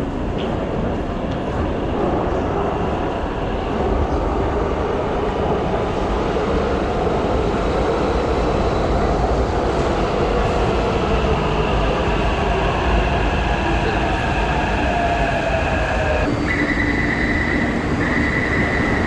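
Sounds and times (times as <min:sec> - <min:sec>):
metro train running: 0:00.0 - 0:19.0.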